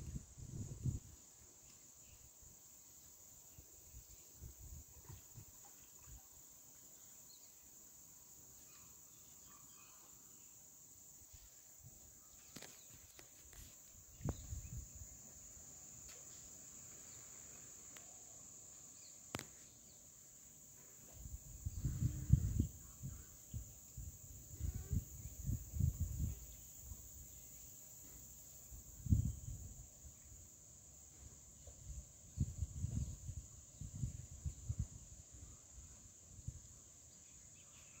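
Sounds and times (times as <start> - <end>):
insects chirping: 0.0 - 38.0.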